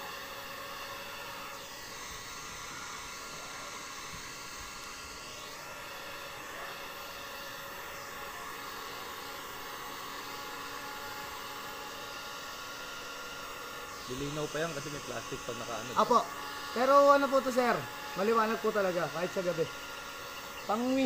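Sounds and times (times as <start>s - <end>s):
heat gun blowing hot air: 0.0s - 21.0s.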